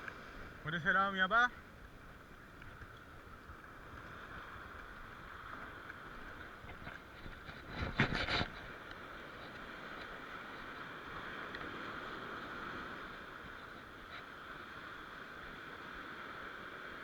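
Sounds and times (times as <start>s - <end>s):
surf washing on shore: 0.0s - 17.0s.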